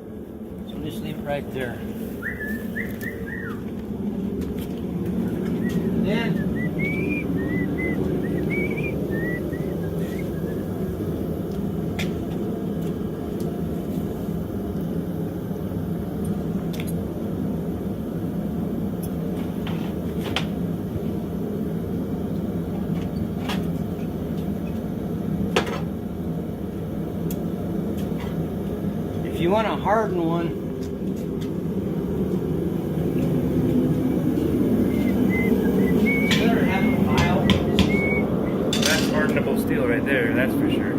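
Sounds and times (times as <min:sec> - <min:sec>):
low mechanical rumble: 0:00.0 - 0:40.9.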